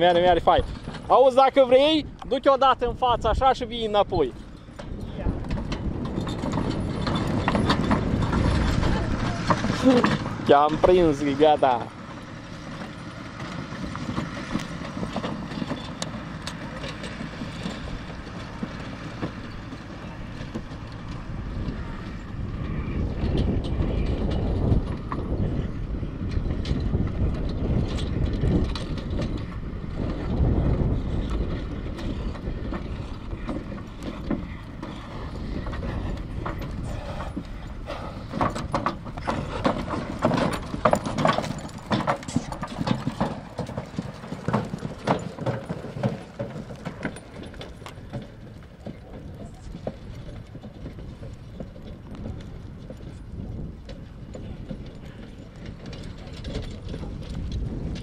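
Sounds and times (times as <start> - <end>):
harness and cart rattling: 0.0 - 58.0
horse hooves clip-clopping: 0.0 - 58.0.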